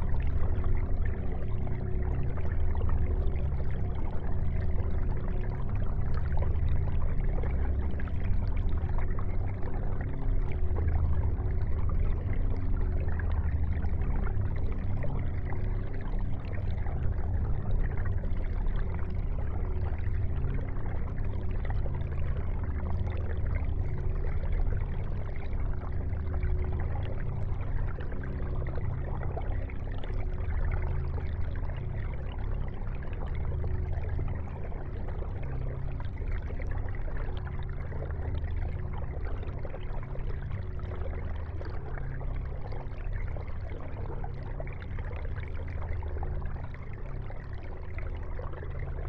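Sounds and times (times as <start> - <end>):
aquarium bubbling and trickling: 0.0 - 49.0
low steady hum: 0.0 - 49.0.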